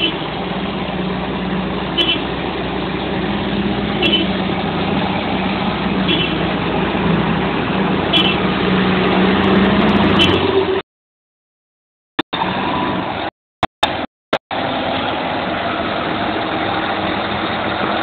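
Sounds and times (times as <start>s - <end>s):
diesel engine running: 0.0s - 10.8s, 12.3s - 18.0s.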